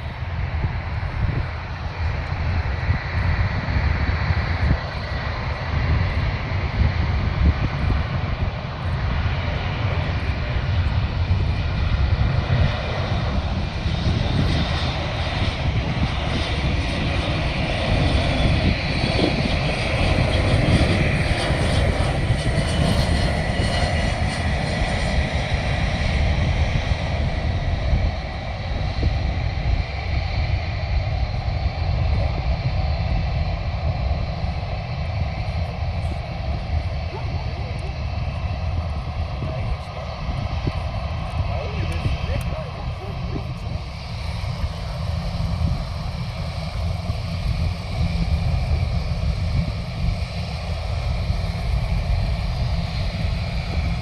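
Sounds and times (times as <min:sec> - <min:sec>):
airplane engines rumbling: 0:00.0 - 0:54.0.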